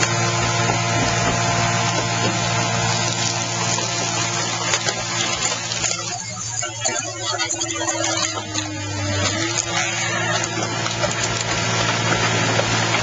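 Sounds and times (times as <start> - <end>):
hydraulic power unit humming: 0.0 - 13.0.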